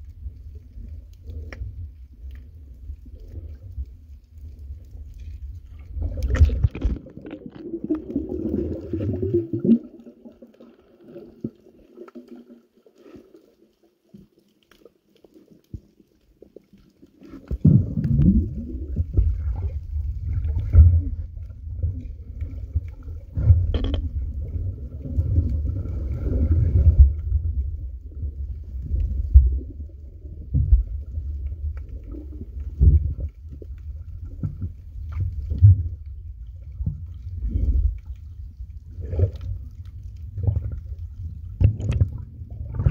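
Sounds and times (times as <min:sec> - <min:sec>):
muffled water rumbling and sloshing: 0:00.0 - 0:42.9.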